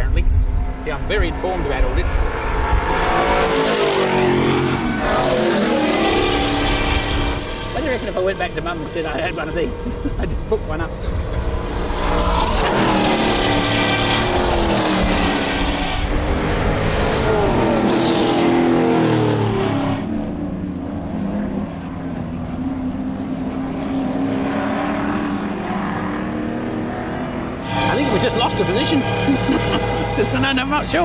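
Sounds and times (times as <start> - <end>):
distant engine drone: 0.0 - 31.0
race cars passing by: 0.2 - 31.0.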